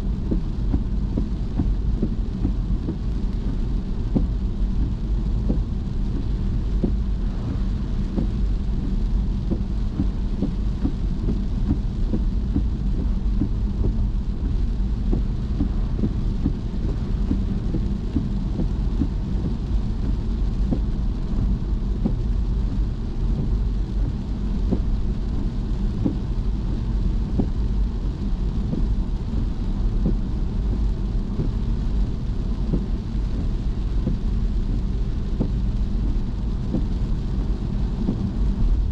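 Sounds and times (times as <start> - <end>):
car tyres and engine rumbling: 0.0 - 38.9
patter of rain drops: 0.0 - 38.9.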